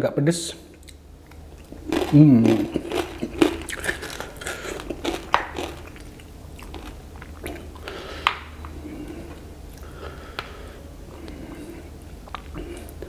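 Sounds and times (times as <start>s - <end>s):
chewing noodles: 0.8s - 9.9s, 11.1s - 13.0s.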